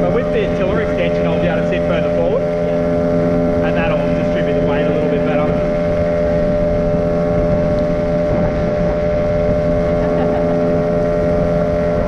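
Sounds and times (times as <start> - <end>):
outboard motor running: 0.0 - 12.0
wind rumbling on microphone: 0.0 - 12.0.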